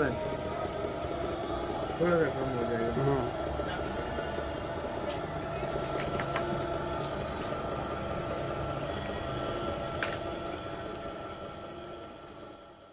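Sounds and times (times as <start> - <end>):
electric oil press humming: 0.0 - 12.9.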